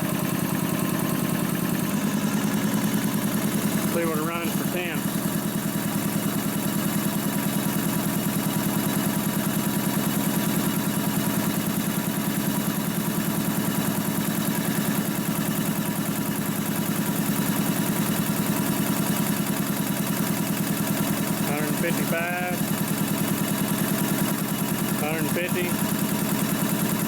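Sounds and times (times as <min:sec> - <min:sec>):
air compressor running: 0:00.0 - 0:27.0.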